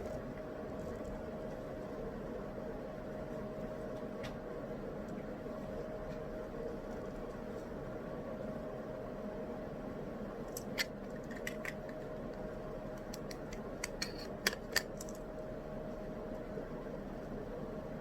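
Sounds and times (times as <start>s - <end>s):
constant low hum: 0.0s - 18.0s
steady white-noise hiss: 0.0s - 18.0s.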